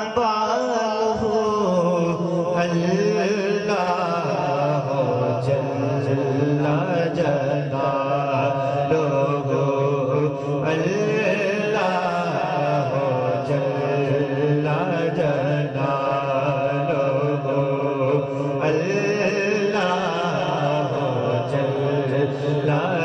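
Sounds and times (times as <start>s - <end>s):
low vocal drone: 0.0s - 23.0s.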